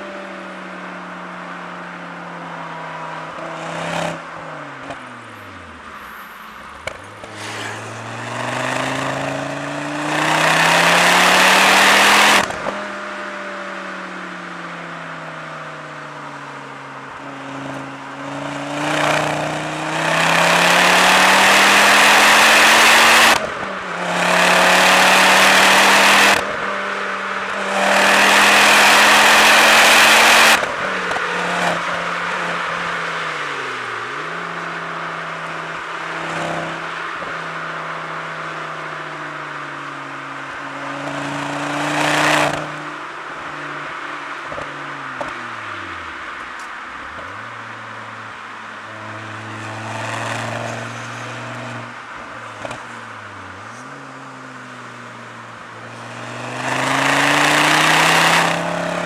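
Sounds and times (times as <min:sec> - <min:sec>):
car engine accelerating hard: 0:02.5 - 0:59.0.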